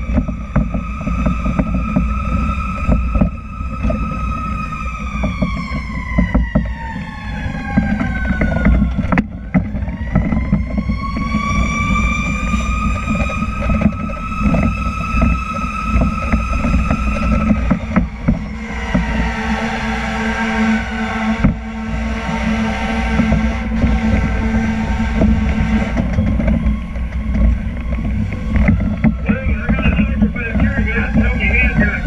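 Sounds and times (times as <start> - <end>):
fire truck siren wailing: 0.0 - 32.0
truck rumbling: 0.0 - 32.0.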